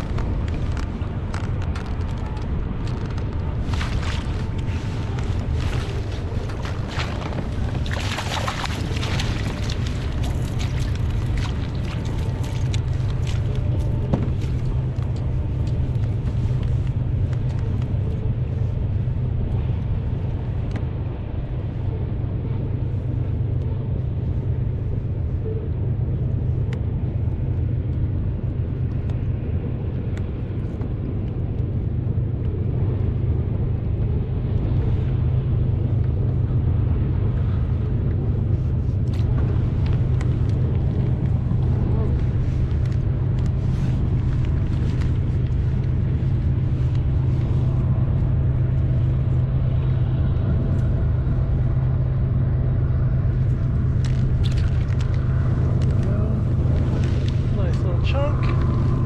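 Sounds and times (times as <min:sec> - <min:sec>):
boat engine rumbling: 0:00.0 - 0:59.0.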